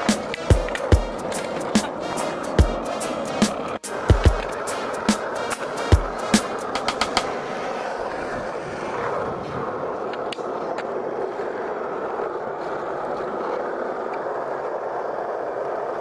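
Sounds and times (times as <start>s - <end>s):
skateboard wheels rolling on asphalt: 0.0s - 16.0s.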